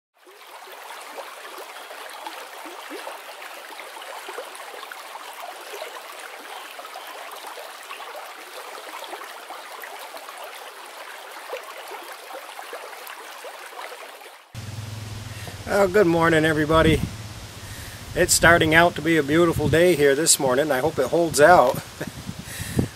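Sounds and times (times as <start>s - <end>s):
stream trickling over stones: 0.2s - 22.9s.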